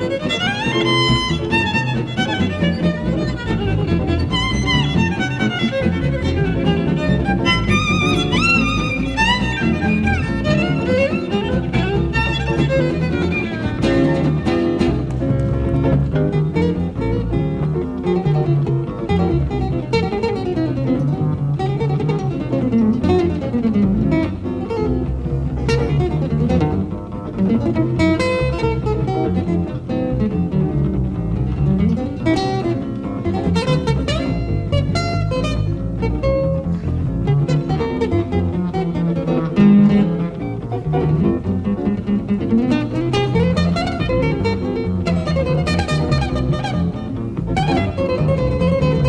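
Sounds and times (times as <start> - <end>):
guitar accompaniment: 0.0 - 49.0
jazz violin with sliding notes: 0.0 - 49.0
walking bass line: 0.0 - 49.0.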